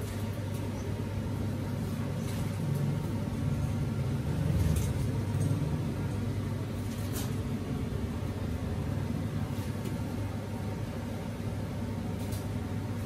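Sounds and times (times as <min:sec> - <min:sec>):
gas burner rumble: 0:00.0 - 0:13.0.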